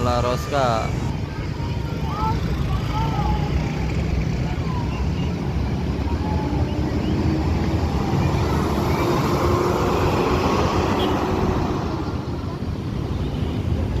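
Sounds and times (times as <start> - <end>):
bus diesel engine passing: 0.0 - 14.0
road traffic: 0.0 - 14.0.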